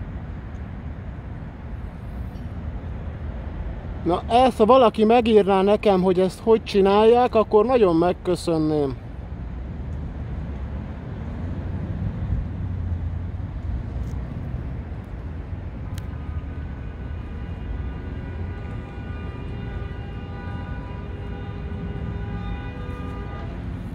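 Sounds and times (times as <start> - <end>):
traffic rumble: 0.0 - 23.9.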